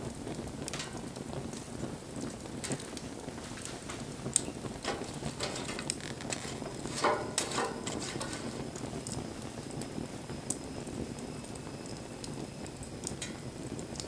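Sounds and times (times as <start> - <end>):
soft hiss: 0.0 - 13.9
wood fire crackling: 0.0 - 14.0.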